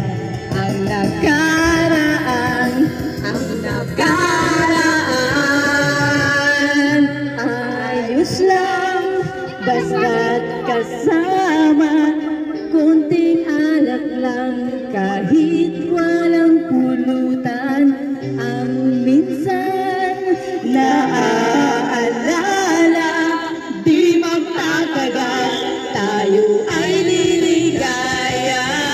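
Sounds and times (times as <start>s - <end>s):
karaoke backing music: 0.0s - 28.9s
person singing into a microphone: 0.0s - 28.9s.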